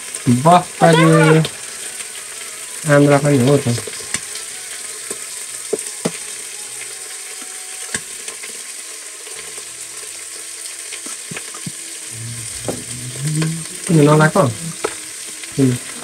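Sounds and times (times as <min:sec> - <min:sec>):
meat sizzling in a pot: 0:00.0 - 0:16.0.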